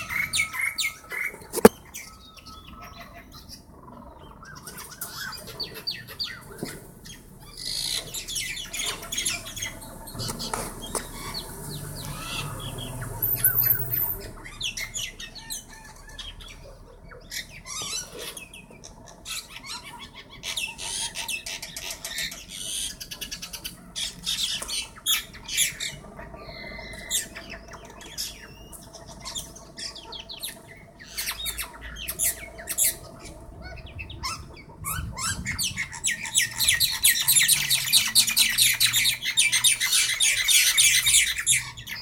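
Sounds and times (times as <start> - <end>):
birds squawking and chirping: 0.0 - 42.0.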